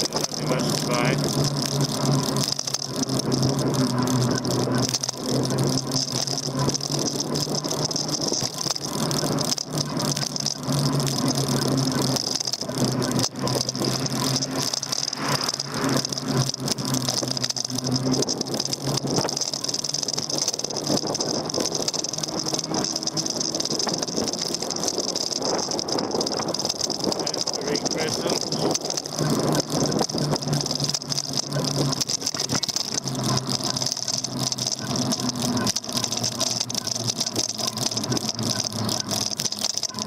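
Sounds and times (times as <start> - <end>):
bike rattling over road: 0.0 - 40.0
electric motor hum: 0.0 - 40.0
high whine: 0.0 - 40.0.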